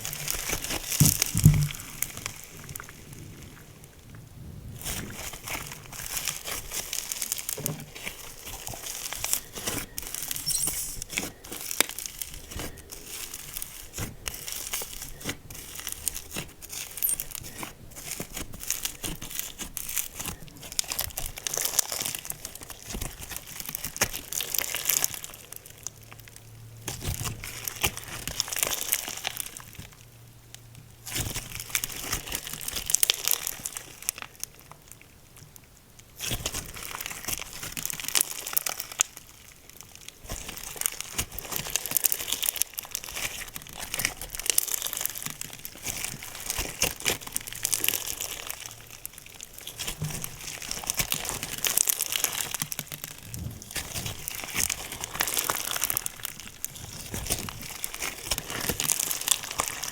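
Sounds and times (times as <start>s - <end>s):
slime crackling and popping: 0.0s - 3.2s, 4.8s - 59.9s.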